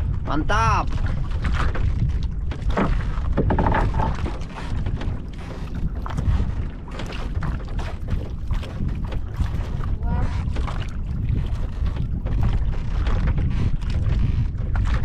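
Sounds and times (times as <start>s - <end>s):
water lapping against boat hull: 0.0s - 15.0s
wind buffeting microphone: 0.0s - 15.0s.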